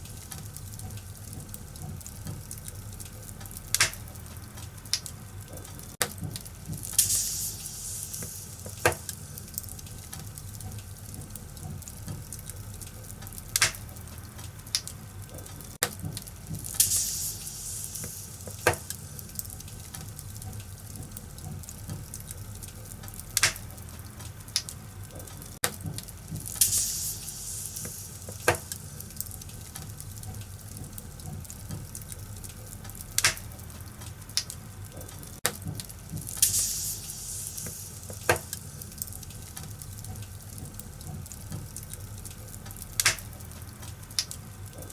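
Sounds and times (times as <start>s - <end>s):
fire hissing flare: 0.0s - 34.6s, 35.4s - 44.7s
fire popping: 0.0s - 44.9s
wood fire crackling: 0.0s - 44.9s.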